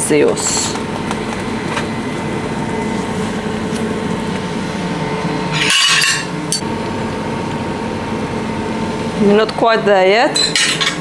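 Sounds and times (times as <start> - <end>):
kitchen appliance fan hum: 0.0 - 11.0.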